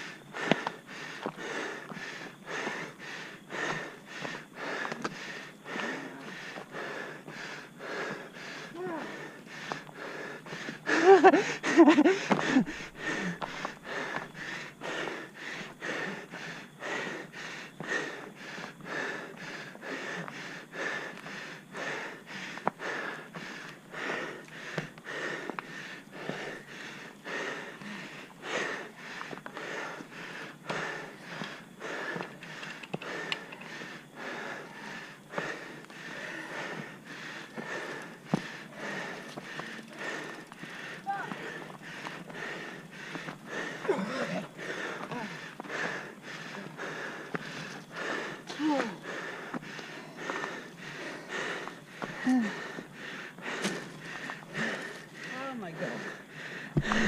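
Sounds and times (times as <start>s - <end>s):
heavy rhythmic panting: 0.0s - 57.0s.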